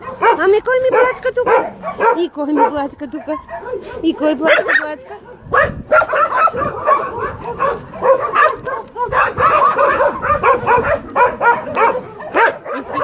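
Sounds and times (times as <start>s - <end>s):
dog barking: 0.0s - 13.0s
dogs whining and yipping: 0.0s - 13.0s.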